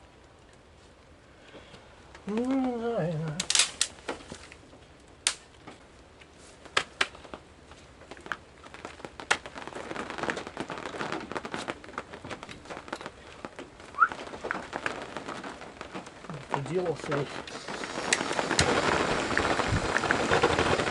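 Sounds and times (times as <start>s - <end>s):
gas burner crackling hiss: 0.8s - 20.9s.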